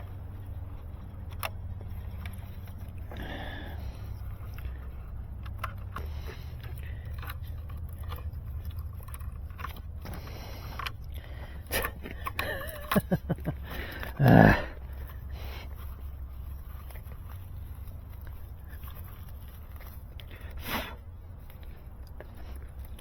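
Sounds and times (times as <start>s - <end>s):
light clicks and handling noises: 0.0s - 23.0s
steady low hum: 0.0s - 23.0s.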